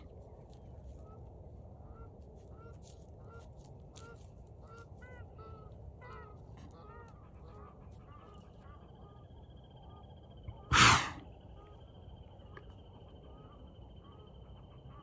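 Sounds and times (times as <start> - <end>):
bird calling: 1.9 - 15.0.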